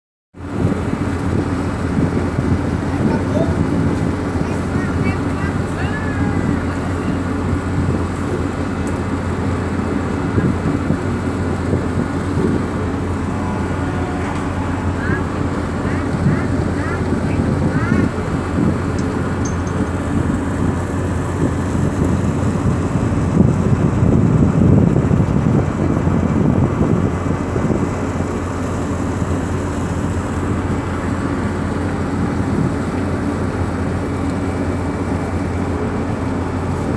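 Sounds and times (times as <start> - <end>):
ship engines rumbling: 0.4 - 36.9.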